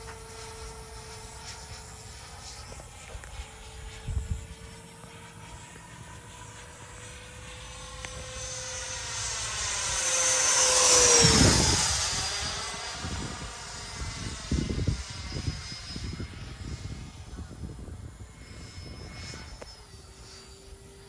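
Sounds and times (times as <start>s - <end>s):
ducted-fan jet whine passing: 0.0s - 21.0s.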